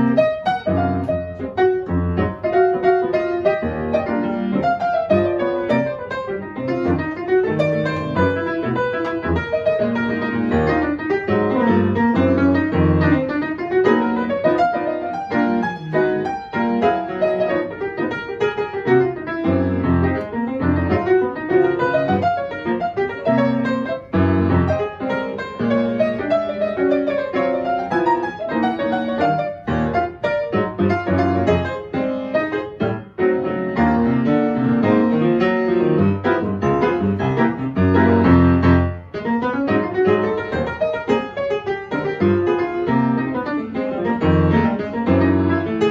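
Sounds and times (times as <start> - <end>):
grand piano playing: 0.0 - 45.9.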